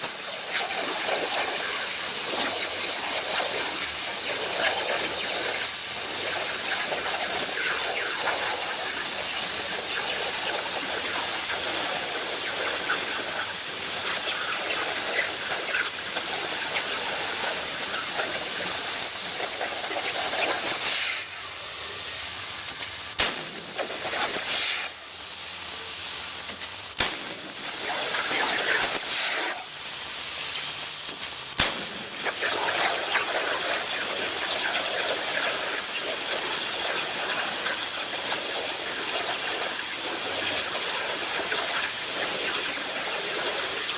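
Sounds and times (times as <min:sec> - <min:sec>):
plasma cutter hissing: 0:00.0 - 0:43.9.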